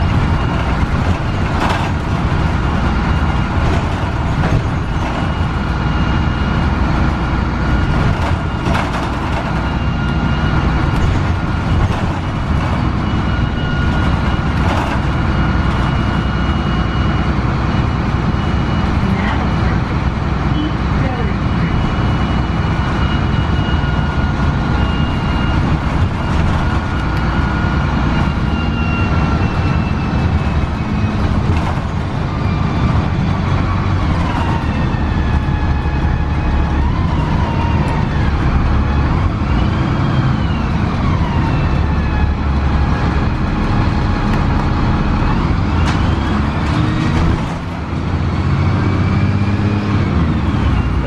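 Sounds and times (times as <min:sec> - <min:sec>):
bus diesel engine rumble: 0:00.0 - 0:51.0.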